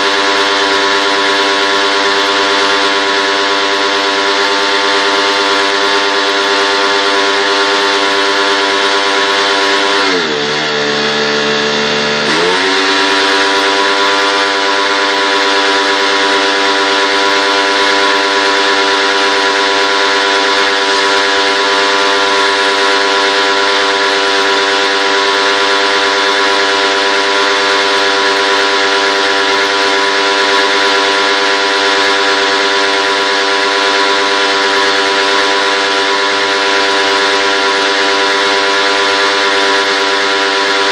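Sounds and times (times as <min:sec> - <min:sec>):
pressure washer motor whining: 0:00.0 - 0:40.9.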